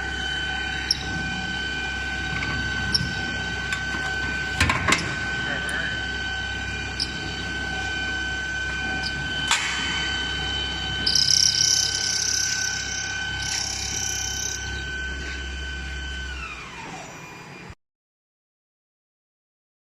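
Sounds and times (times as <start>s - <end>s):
drill cutting metal pipe: 0.0s - 17.2s
low hum: 0.0s - 17.6s
drill spindle whine: 0.0s - 17.8s.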